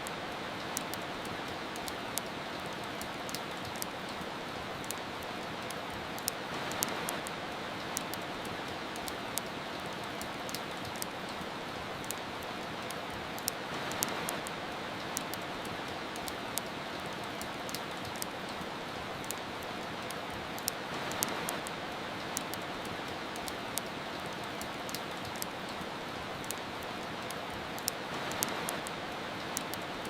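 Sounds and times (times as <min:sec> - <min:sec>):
steady rain: 0:00.0 - 0:30.0
wood fire crackling: 0:00.0 - 0:30.0.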